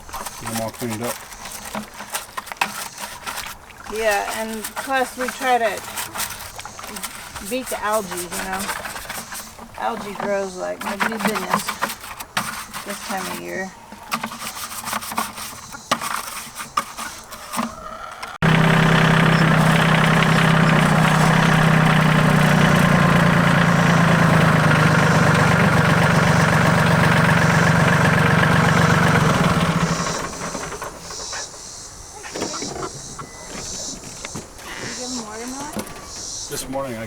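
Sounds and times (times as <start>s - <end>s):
engine running: 3.9s - 14.3s, 17.6s - 37.0s.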